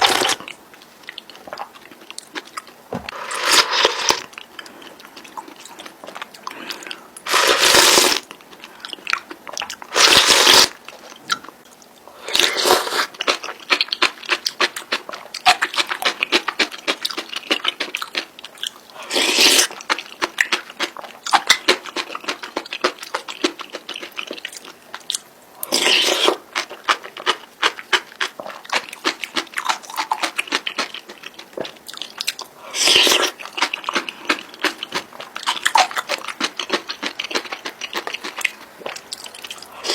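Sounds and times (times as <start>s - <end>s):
close chewing of noodles: 0.0s - 39.9s.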